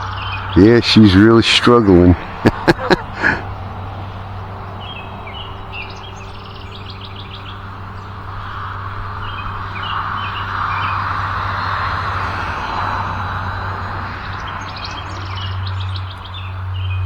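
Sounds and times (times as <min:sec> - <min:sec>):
birds chirping: 0:00.0 - 0:17.0
low hum: 0:00.0 - 0:17.0
wind noise: 0:00.0 - 0:17.0.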